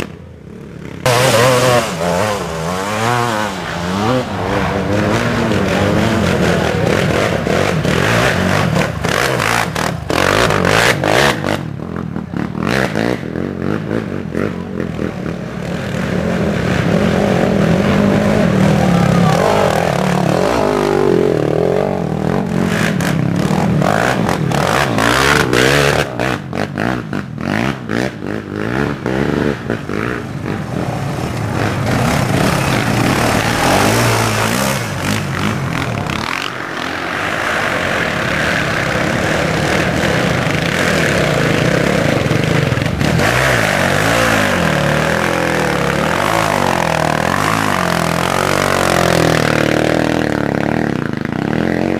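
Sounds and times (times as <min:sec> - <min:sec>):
quad engines revving: 0:00.0 - 0:51.9.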